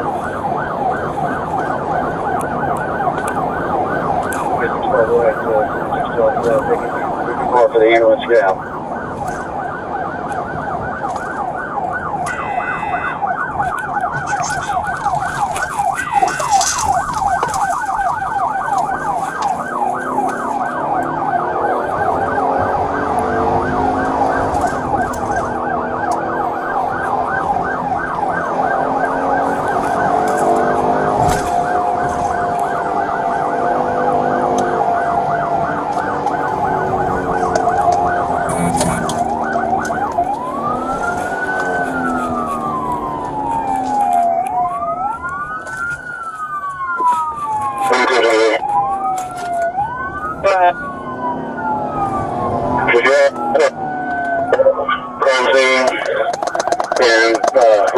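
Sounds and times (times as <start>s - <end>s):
police siren yelping: 0.0s - 57.9s
wailing siren: 0.0s - 57.9s.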